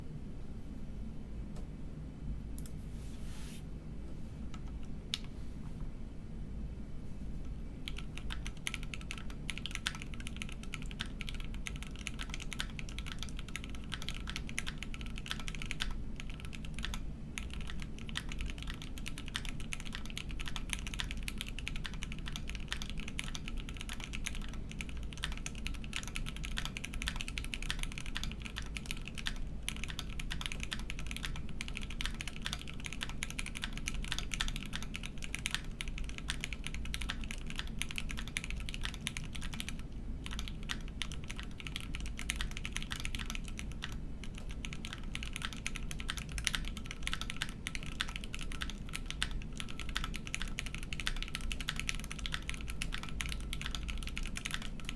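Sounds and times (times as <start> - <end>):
mechanical keyboard typing: 7.8 - 54.9.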